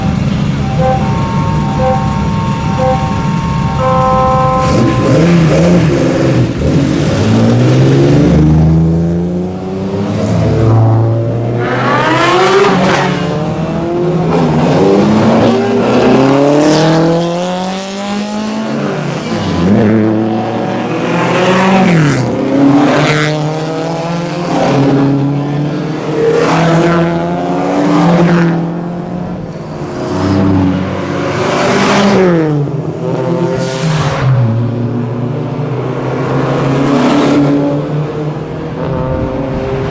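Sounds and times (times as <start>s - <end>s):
race cars passing at full throttle: 0.0s - 39.9s.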